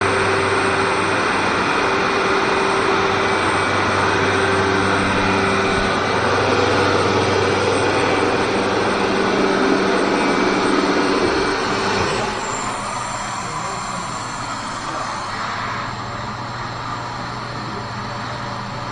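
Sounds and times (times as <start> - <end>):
router machine whirring: 0.0 - 18.9.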